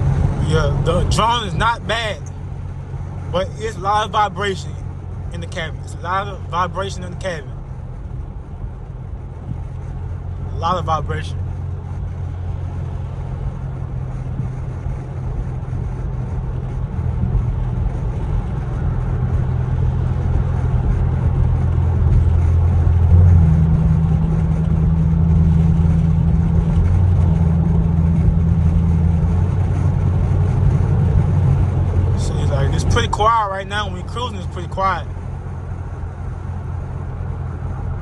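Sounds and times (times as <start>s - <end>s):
low exhaust drone inside car: 0.0s - 38.0s.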